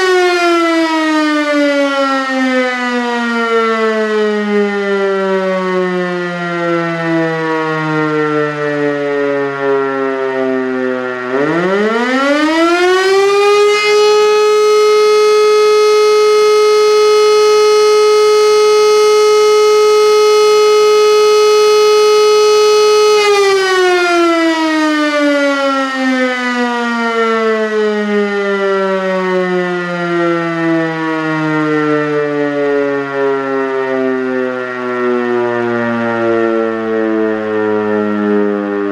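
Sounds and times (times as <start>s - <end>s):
fire alarm siren wailing: 0.0s - 38.9s.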